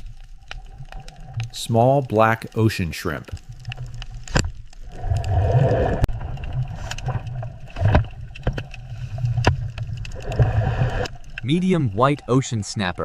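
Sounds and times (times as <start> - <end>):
water gurgling and sloshing: 0.0 - 13.0.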